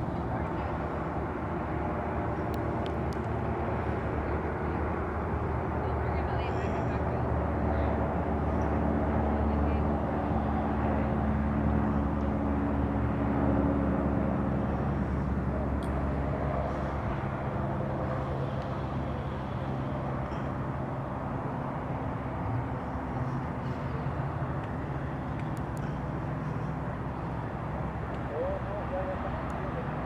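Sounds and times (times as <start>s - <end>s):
engine rumble: 0.0s - 30.0s.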